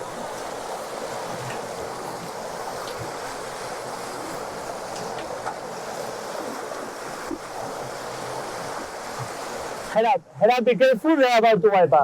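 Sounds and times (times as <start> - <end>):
rush of wind and water: 0.0 - 12.0.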